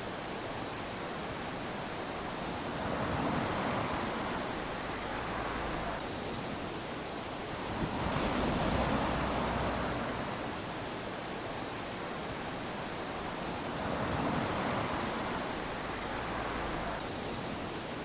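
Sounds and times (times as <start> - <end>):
small waves lapping on sand: 0.0 - 18.0.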